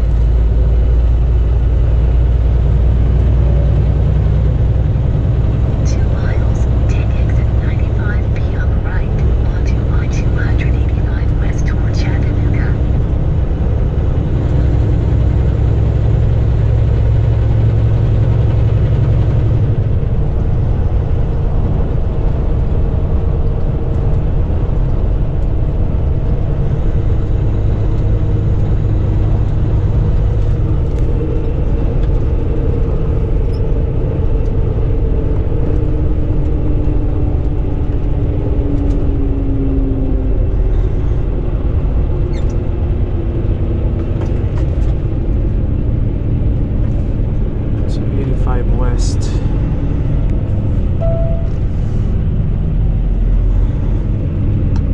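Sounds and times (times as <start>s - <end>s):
road rumble: 0.0s - 54.9s
truck engine drone: 0.0s - 54.9s.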